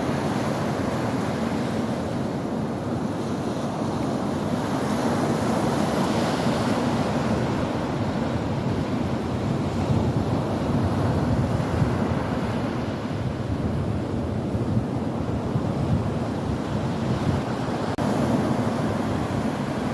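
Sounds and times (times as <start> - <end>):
ocean waves breaking: 0.0 - 19.9.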